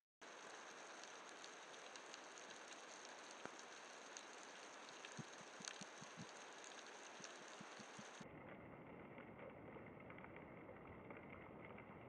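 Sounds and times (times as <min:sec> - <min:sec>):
small clicks and crackles: 0:00.2 - 0:12.0.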